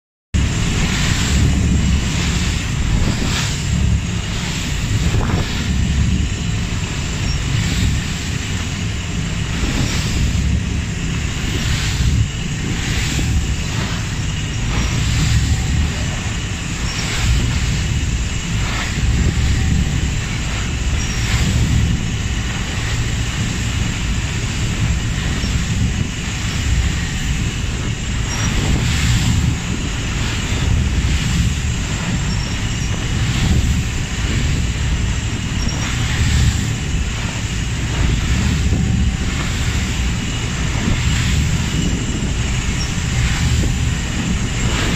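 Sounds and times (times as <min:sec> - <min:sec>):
ferry engine rumble: 0:00.4 - 0:44.9
short splashes: 0:00.4 - 0:44.9
spray rushing off hull: 0:00.4 - 0:44.9
wind buffeting microphone: 0:00.4 - 0:44.9.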